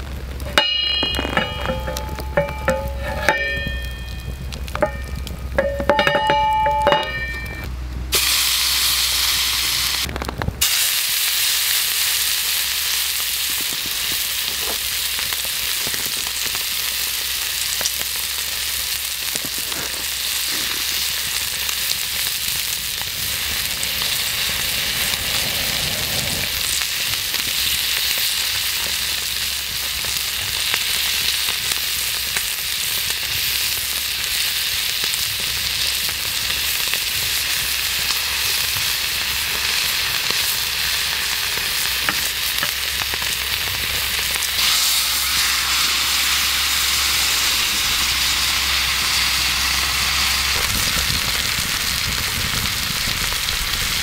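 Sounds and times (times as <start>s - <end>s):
meat sizzling in a frying pan: 8.1s - 54.0s.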